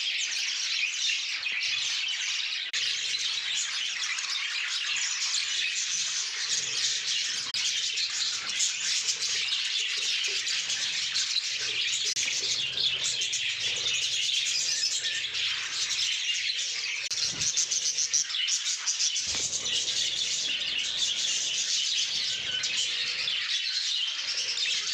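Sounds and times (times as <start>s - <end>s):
budgerigars chattering and chirping: 0.1s - 24.9s.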